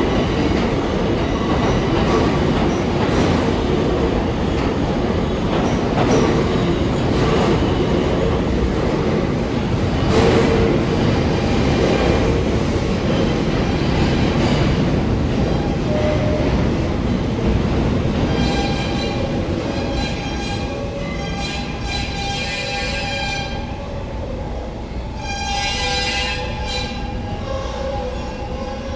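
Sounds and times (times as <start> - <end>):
subway train wheels rumbling on rails: 0.0 - 28.9.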